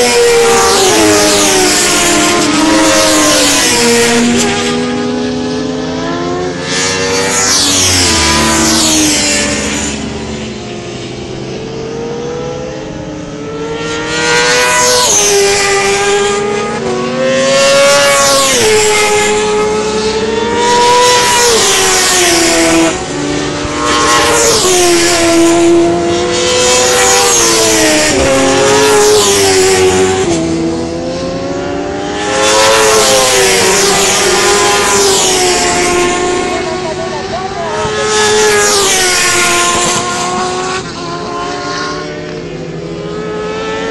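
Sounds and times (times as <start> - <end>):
racing motorcycles passing: 0.0 - 43.9.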